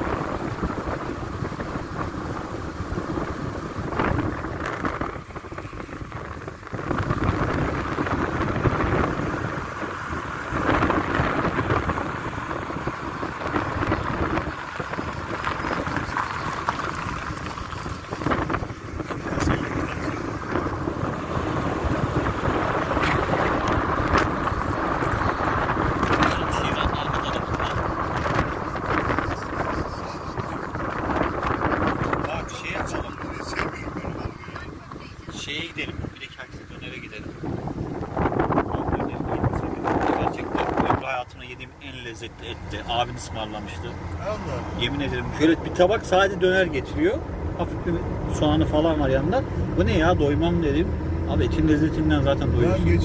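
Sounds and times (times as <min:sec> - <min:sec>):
road noise in moving car: 0:00.0 - 0:53.0
wind buffeting microphone: 0:00.0 - 0:53.0.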